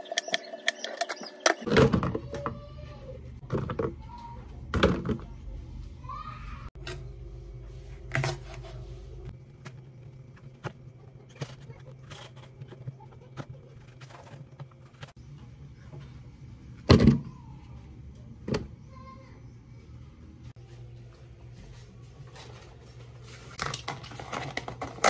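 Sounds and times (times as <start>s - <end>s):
low steady hum: 1.7s - 25.0s.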